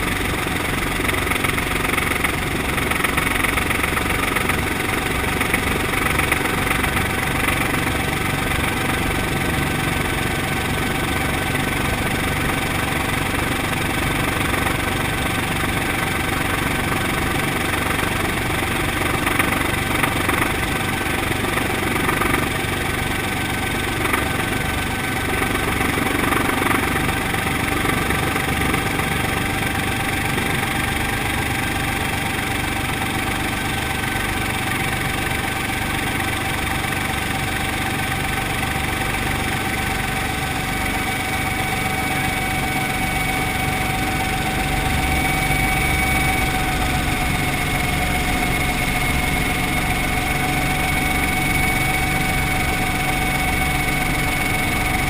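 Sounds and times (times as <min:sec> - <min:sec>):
helicopter engine and rotor running: 0:00.0 - 0:55.0.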